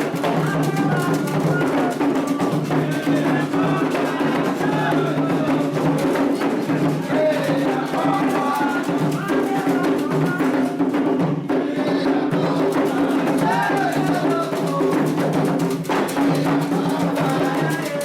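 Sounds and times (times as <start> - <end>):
hand drums: 0.0 - 18.0
voices singing: 0.0 - 18.0.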